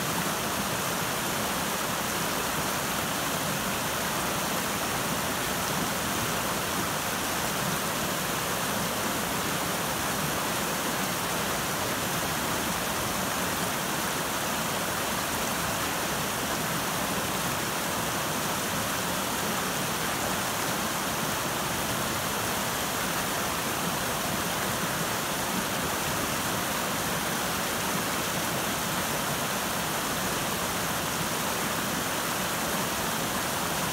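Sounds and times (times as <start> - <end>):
water rushing over boulders: 0.0 - 33.9.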